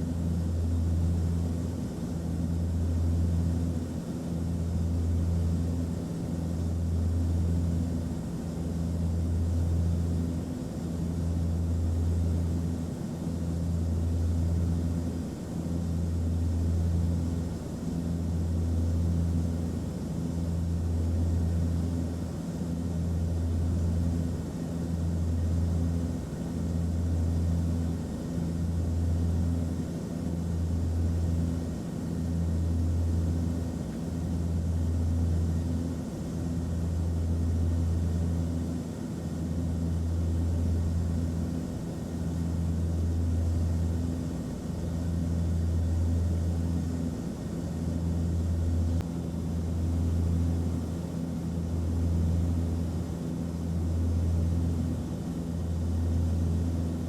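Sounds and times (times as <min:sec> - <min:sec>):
airplane engine drone: 0:00.0 - 0:57.0.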